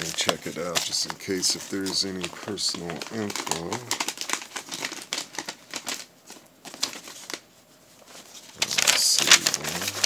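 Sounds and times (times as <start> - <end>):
package wrapping crinkling: 0.0 - 10.0.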